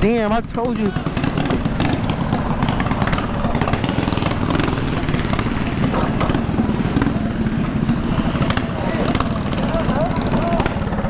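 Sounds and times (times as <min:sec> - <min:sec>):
mini bike engine running: 0:00.0 - 0:11.0.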